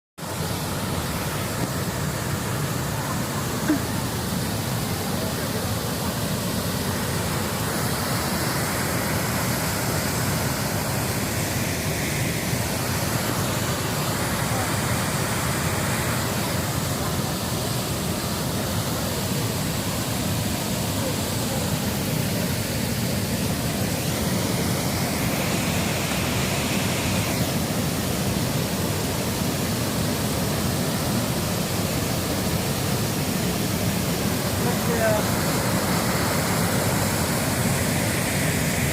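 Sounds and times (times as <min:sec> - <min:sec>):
steady rushing noise: 0:00.2 - 0:38.9.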